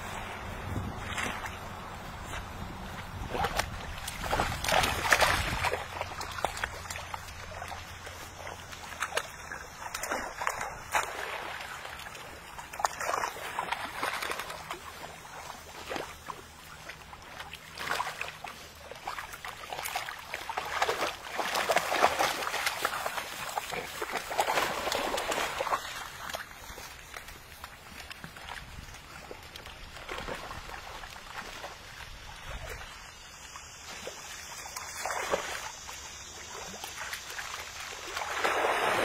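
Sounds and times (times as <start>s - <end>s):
dogs splashing in water: 0.0s - 39.0s.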